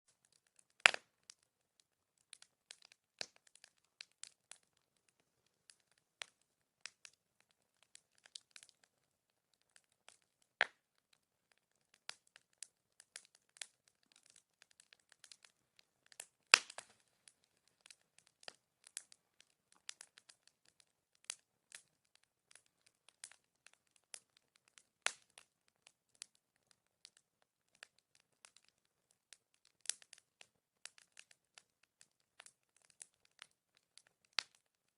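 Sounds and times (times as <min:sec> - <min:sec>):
bonfire crackling: 0:00.2 - 0:34.8.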